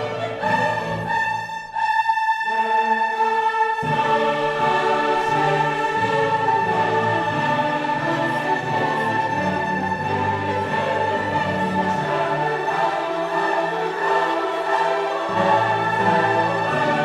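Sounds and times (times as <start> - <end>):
orchestral music with choir: 0.0 - 17.0.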